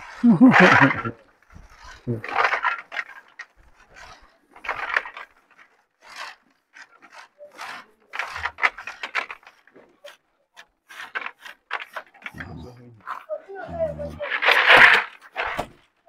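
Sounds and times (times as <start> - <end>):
nuts scraping against woven basket: 0.0 - 16.0.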